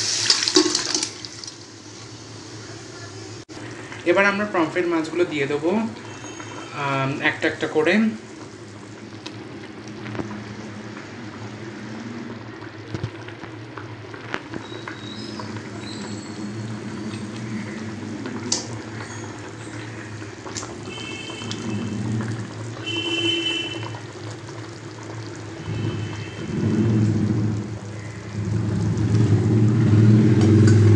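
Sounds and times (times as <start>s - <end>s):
gravy bubbling in a wok: 0.0s - 30.9s.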